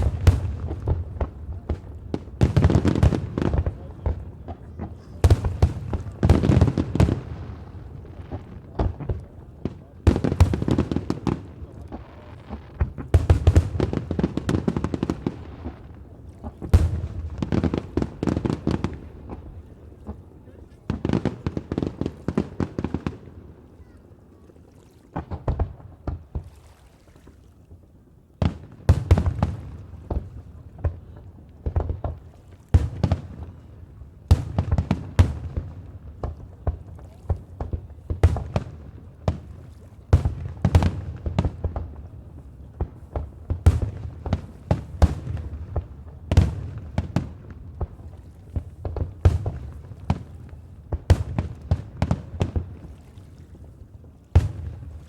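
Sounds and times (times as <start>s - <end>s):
fireworks bursting with bangs: 0.0s - 20.2s, 28.4s - 52.9s, 54.0s - 55.0s.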